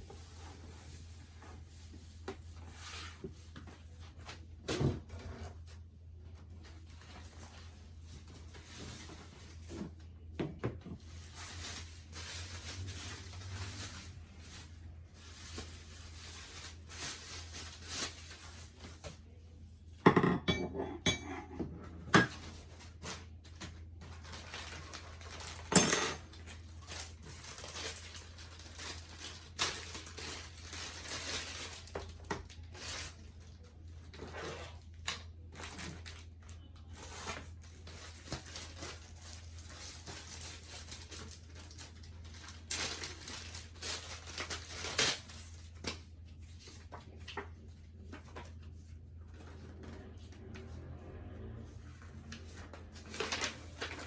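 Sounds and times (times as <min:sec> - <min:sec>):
packaging rustling and scraping: 0:00.0 - 0:05.8, 0:06.5 - 0:10.2, 0:10.8 - 0:19.4, 0:21.8 - 0:54.0.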